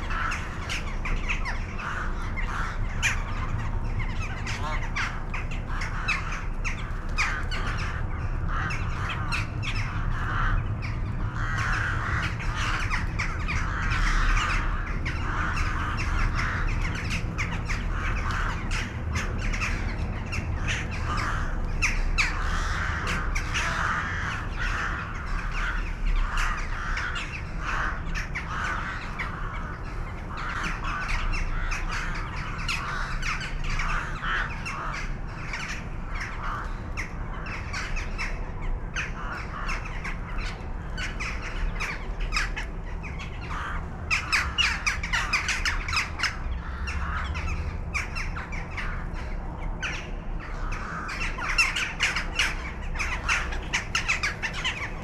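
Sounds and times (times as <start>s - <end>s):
crows cawing: 0.0s - 55.0s
low steady rumble: 0.0s - 55.0s.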